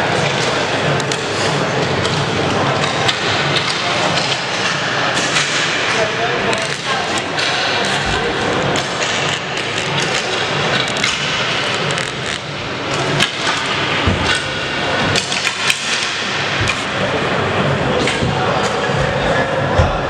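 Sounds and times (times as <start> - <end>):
hockey sticks clacking: 0.1 - 17.2.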